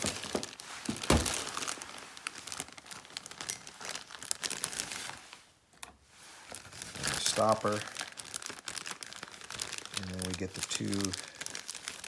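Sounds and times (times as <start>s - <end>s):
plastic bag crinkling: 0.0s - 5.3s, 6.4s - 12.0s.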